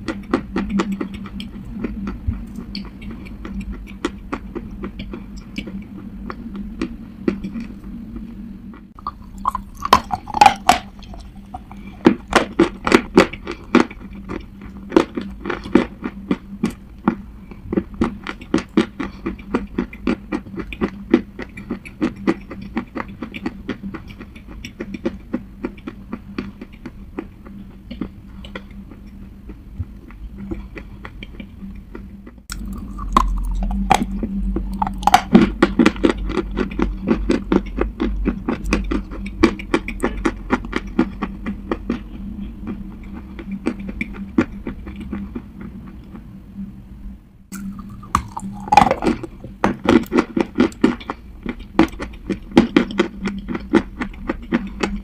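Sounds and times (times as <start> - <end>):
low hum: 0.0 - 55.0
clay being chewed crunching: 9.0 - 46.2, 47.5 - 55.0.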